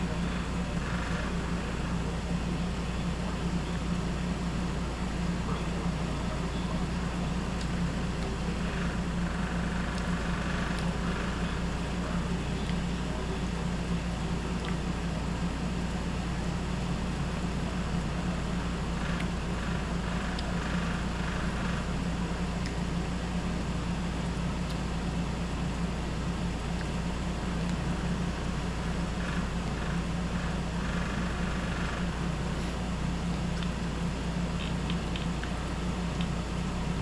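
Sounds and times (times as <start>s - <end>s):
air conditioner humming: 0.0s - 37.0s.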